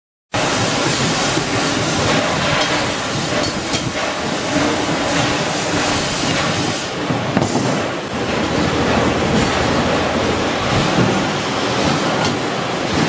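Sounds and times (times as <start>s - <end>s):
loud machinery noise: 0.4s - 13.0s.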